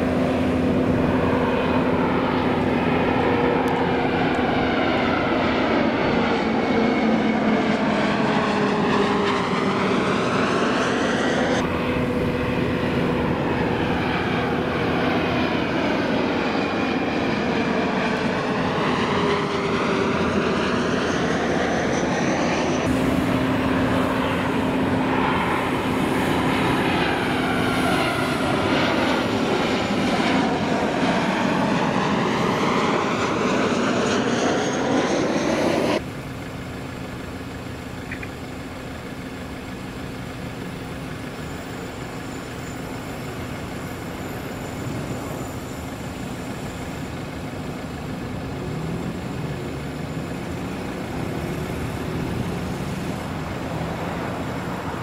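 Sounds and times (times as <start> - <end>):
jet plane on approach: 0.0 - 55.0
jet plane passing low overhead: 0.0 - 55.0.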